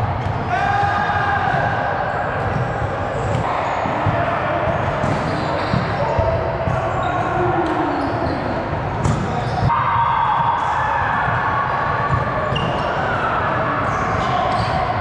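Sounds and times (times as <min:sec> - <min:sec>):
echoing hall noise: 0:00.0 - 0:15.0
voices: 0:00.2 - 0:15.0.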